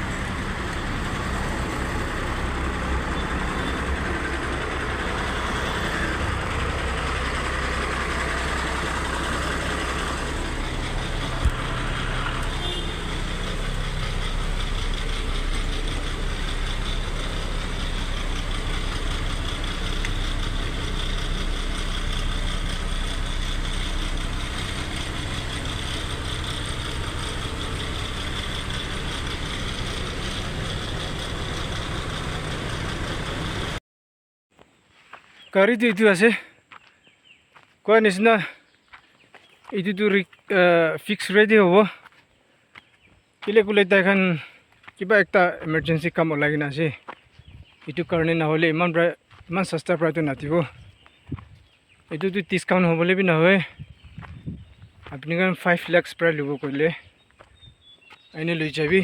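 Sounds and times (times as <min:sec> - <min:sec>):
truck diesel engine idling: 0:00.0 - 0:33.8, 0:35.5 - 0:59.0.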